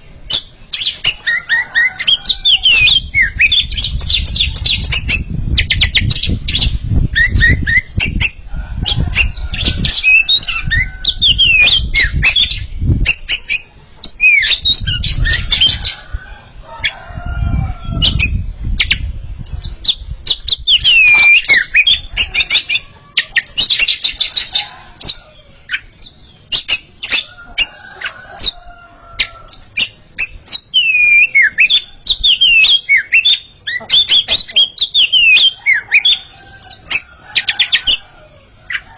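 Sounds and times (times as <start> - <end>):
birds singing: 0.0 - 38.9.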